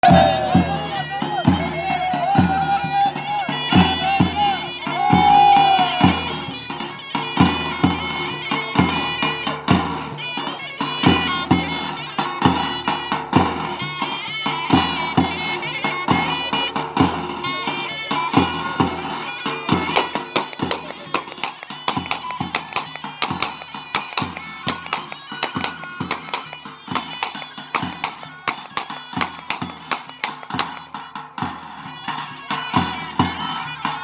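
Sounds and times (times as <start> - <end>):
drum beats: 0.0 - 34.0
reedy wind instrument melody: 0.0 - 34.0.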